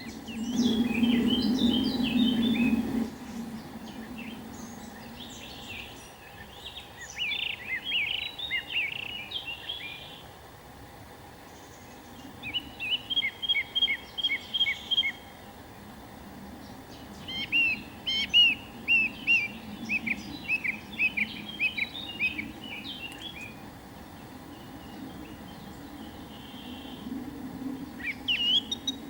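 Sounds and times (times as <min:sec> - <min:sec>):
bird chirping: 0:00.0 - 0:10.3, 0:11.5 - 0:15.4, 0:16.6 - 0:23.6, 0:24.2 - 0:27.1, 0:27.9 - 0:29.0
low background hiss: 0:00.0 - 0:29.0.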